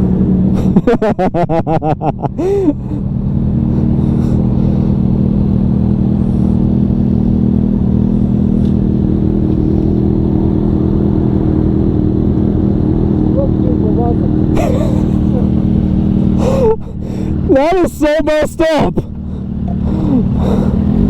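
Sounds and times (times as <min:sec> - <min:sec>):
sportbike engine running: 0:00.0 - 0:21.0.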